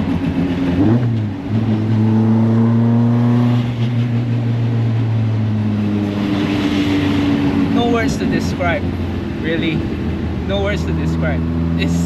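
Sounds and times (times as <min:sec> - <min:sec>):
car engine from inside cabin: 0:00.0 - 0:06.4, 0:07.2 - 0:12.0.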